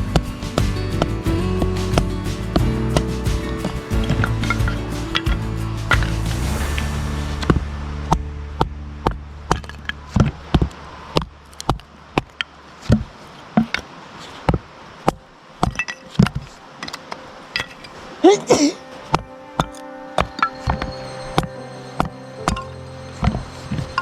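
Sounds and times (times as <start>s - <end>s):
background music: 0.0s - 11.2s, 15.4s - 24.0s.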